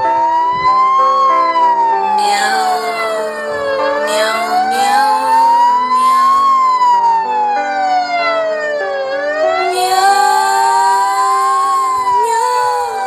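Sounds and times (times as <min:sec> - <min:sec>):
wailing siren: 0:00.0 - 0:13.0.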